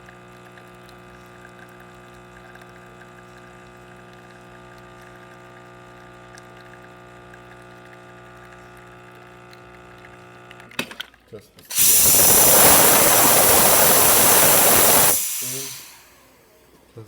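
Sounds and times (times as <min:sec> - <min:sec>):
espresso machine pump humming: 0:01.5 - 0:10.6, 0:11.7 - 0:16.4.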